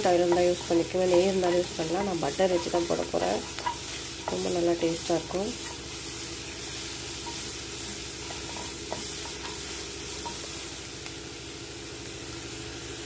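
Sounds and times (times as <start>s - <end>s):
spatula tapping pan: 0.0s - 10.6s
food sizzling in butter: 0.0s - 13.0s.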